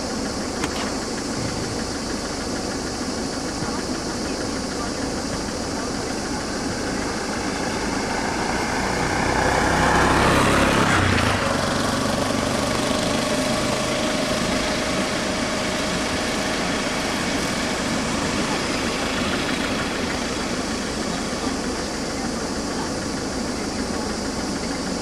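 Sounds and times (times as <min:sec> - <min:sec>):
vehicle engines idling: 0:00.0 - 0:25.0.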